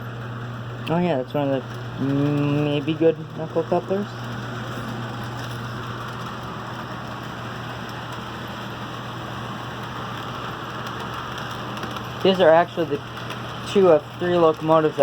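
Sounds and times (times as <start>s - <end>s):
model train motor hum: 0.0s - 15.0s
wheels rolling on rails: 0.0s - 15.0s.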